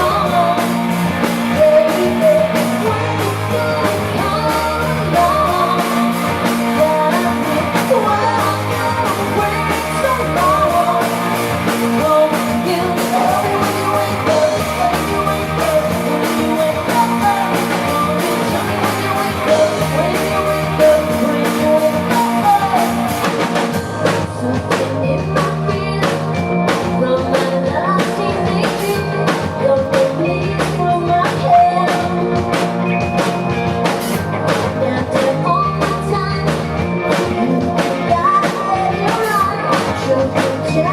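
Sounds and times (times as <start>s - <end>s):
person singing: 0.0s - 33.0s, 34.6s - 40.9s
live rock band playing: 0.0s - 40.9s.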